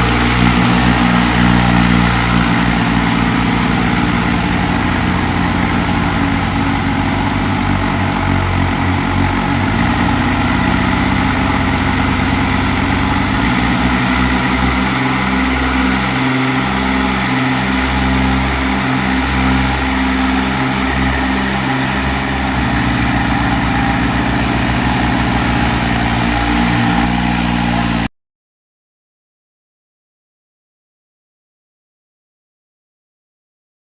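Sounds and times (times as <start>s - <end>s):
tractor diesel engines running: 0.0s - 28.1s.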